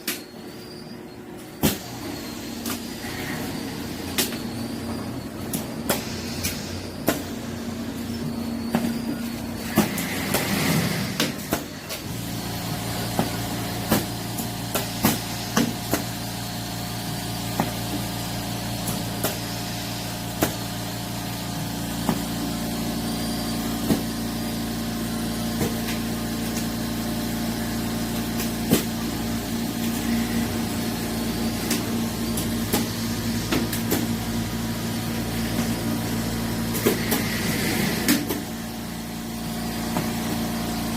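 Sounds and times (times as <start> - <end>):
bottle-filling machine motor hum: 0.3 - 40.9.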